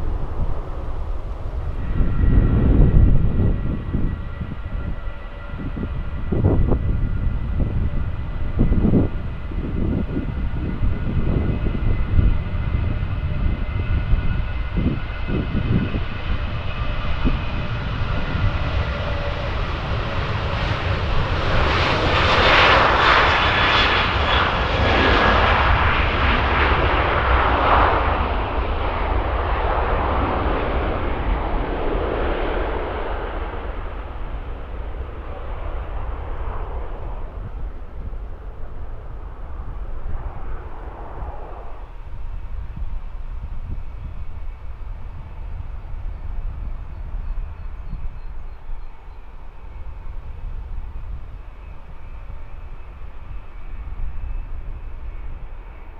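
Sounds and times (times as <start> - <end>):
jet engines at takeoff power: 0.0 - 55.9.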